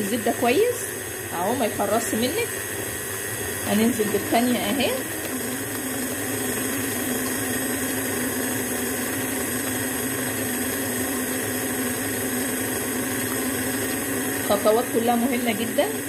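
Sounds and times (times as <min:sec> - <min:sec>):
electric stand mixer running: 0:00.0 - 0:16.0.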